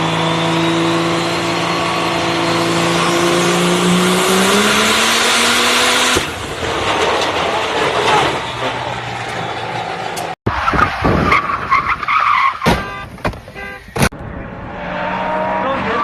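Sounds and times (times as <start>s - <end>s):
car engine noise: 0.0s - 16.0s
tyres skidding: 0.0s - 16.0s.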